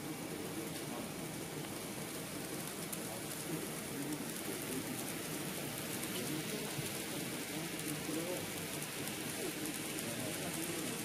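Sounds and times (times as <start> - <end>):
faint indistinct voices: 0.0 - 11.0
model train rolling on track: 0.0 - 11.0.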